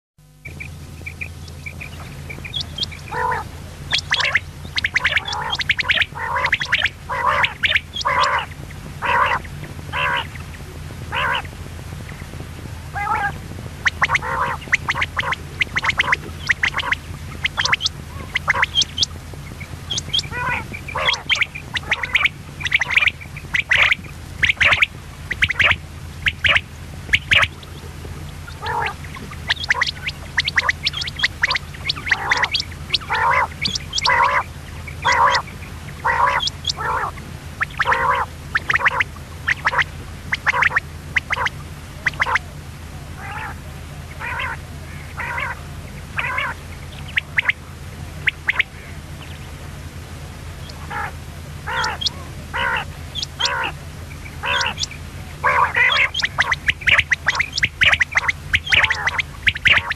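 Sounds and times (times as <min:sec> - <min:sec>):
steady low hum: 0:00.2 - 0:59.9
quail calling: 0:00.4 - 0:49.6, 0:50.6 - 0:59.9.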